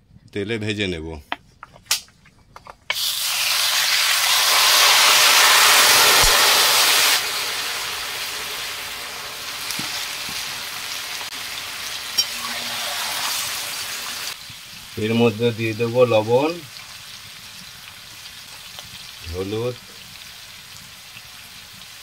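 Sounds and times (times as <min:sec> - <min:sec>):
chicken sizzling in hot oil: 0:02.9 - 0:22.0.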